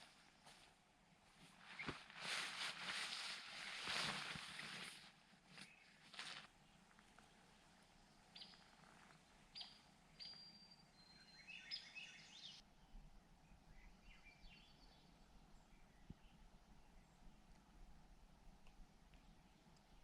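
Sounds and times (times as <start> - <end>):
faint birdsong: 0.0 - 18.3.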